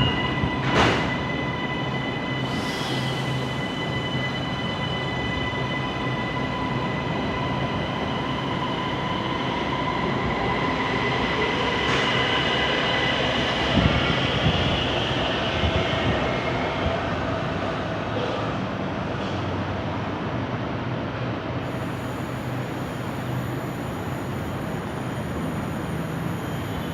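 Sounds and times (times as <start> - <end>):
metro train departing: 0.0 - 26.9.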